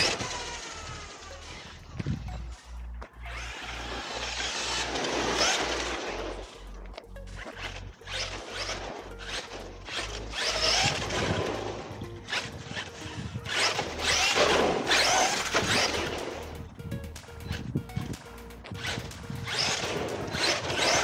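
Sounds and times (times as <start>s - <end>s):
rc car motor whine: 0.0s - 2.6s, 3.2s - 6.8s, 7.4s - 16.6s, 18.7s - 21.0s
background music with steady beat: 0.0s - 21.0s.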